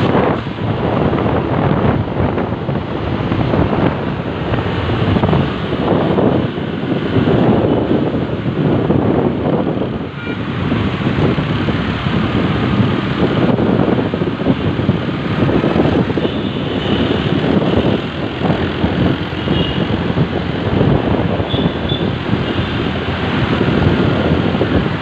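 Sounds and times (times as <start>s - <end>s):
motorbike and road noise: 0.0s - 25.0s
wind buffeting microphone: 0.0s - 25.0s.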